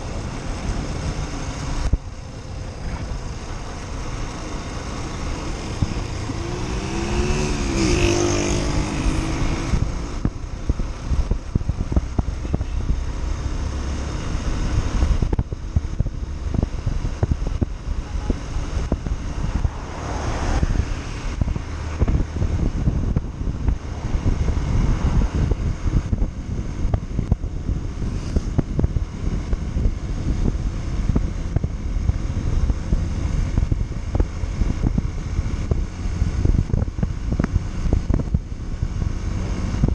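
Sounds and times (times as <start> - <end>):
motorcycle engine rumble: 0.0 - 39.9
wind buffeting microphone: 0.0 - 39.9.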